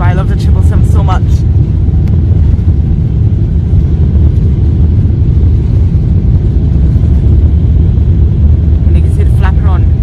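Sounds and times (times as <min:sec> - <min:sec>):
jet cabin low rumble: 0:00.0 - 0:10.0.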